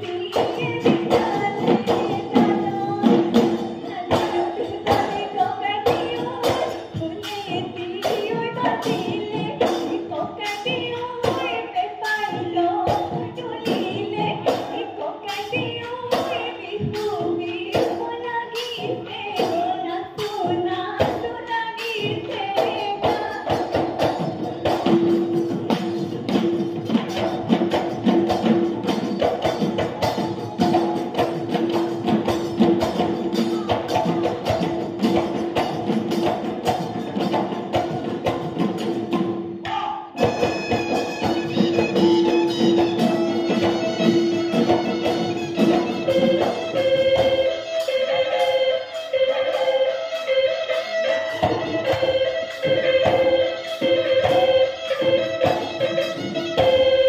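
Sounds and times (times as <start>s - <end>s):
women singing: 0.0s - 24.9s, 28.4s - 38.4s, 39.7s - 57.0s
dhol drums beating: 0.0s - 57.0s.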